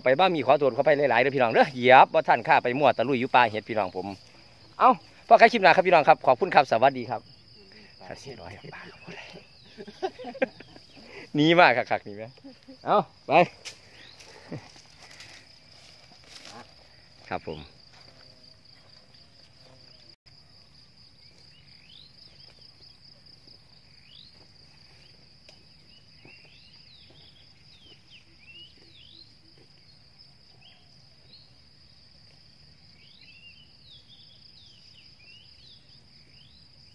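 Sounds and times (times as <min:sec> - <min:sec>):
insect trill: 0:00.0 - 0:36.9.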